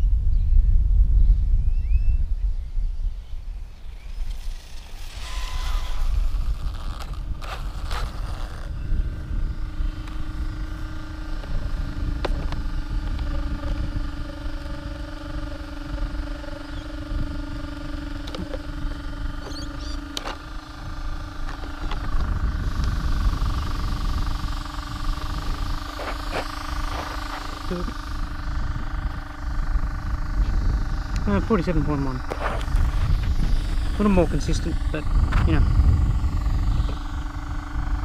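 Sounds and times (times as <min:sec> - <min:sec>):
electric hum: 0:00.0 - 0:38.0
wind rumbling on microphone: 0:00.0 - 0:38.0.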